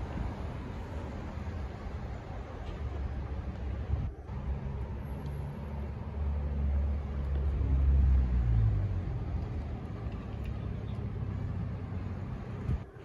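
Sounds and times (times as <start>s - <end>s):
city street traffic: 0.0s - 13.0s
passing vehicle engine rumble: 0.0s - 13.0s.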